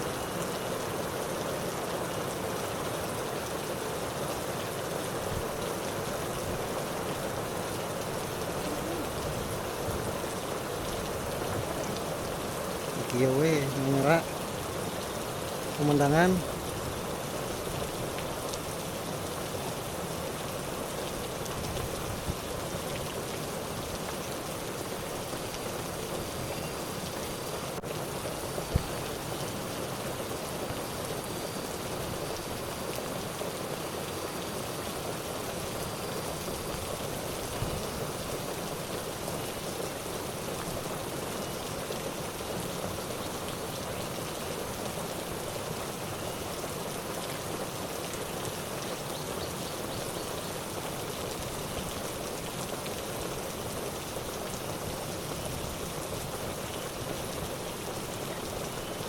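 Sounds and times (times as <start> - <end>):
rain or running water hiss: 0.0 - 59.0.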